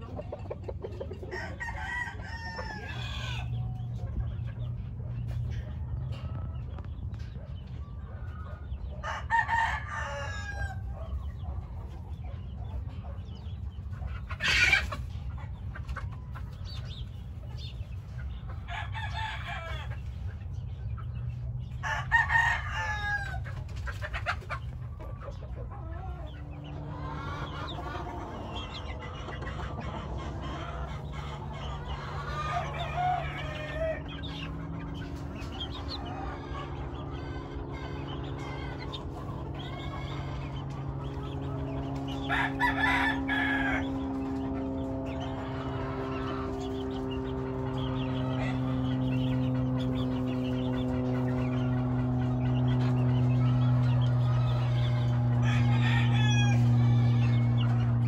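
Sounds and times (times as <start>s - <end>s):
roosters crowing: 0.0s - 11.8s, 14.0s - 58.0s
chickens clucking and calling: 0.0s - 58.0s
low background rumble: 0.0s - 58.0s.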